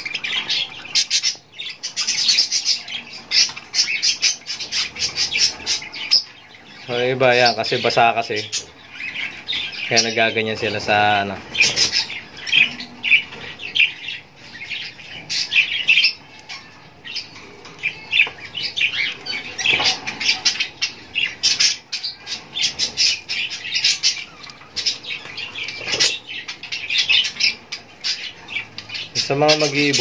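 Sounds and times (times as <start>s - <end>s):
budgerigars chirping and squawking: 0.0s - 30.0s.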